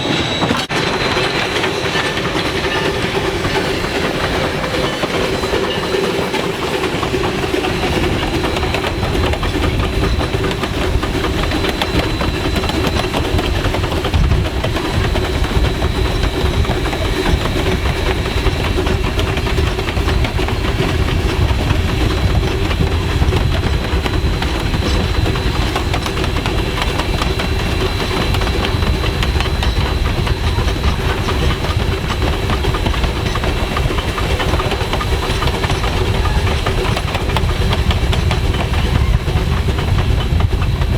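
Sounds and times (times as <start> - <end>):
steam train rumbling on rails: 0.0 - 40.9.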